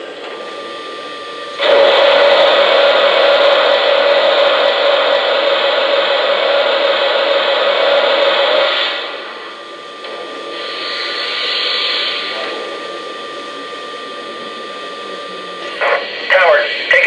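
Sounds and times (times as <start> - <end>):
model locomotive steam hissing: 0.4 - 17.0.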